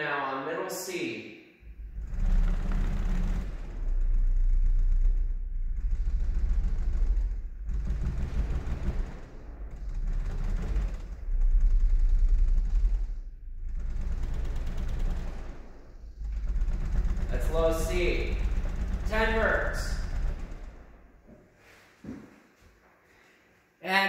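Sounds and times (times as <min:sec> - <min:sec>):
very deep bass organ notes: 0:01.6 - 0:21.3
walls and doors rattling: 0:01.6 - 0:21.6.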